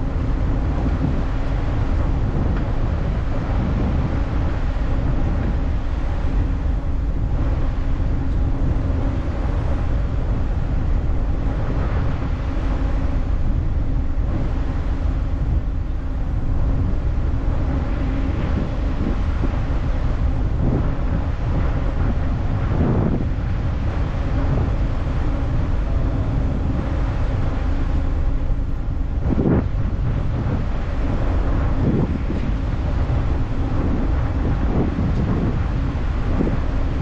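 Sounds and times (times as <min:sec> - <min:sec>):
faint hum: 0:00.0 - 0:37.0
ship engines rumbling: 0:00.0 - 0:37.0.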